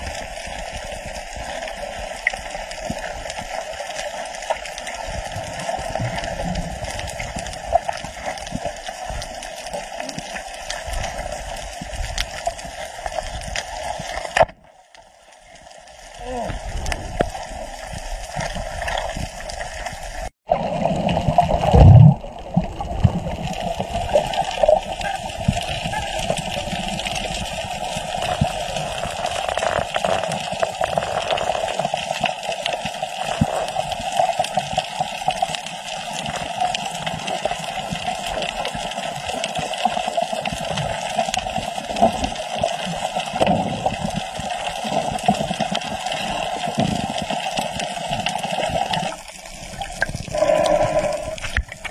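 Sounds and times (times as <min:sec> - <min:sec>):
muffled underwater water noise: 0:00.0 - 0:51.9.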